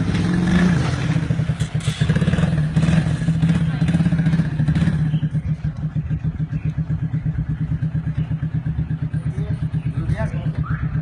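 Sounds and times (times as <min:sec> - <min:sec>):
vehicle engine idling: 0:01.2 - 0:11.0.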